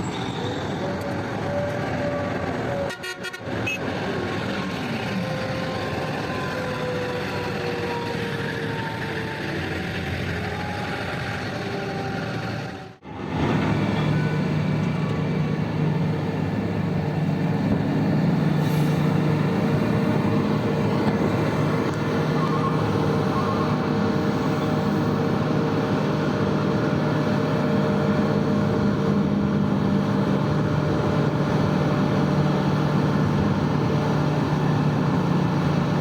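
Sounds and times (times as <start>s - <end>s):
heavy machinery diesel engines: 0.0s - 36.0s
deep engine drone: 4.2s - 36.0s.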